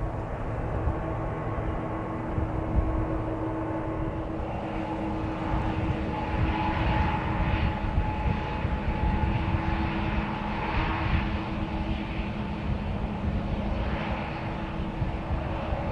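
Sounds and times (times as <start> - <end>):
high engine whine: 0.0 - 15.9
jet engines rumbling: 0.0 - 15.9.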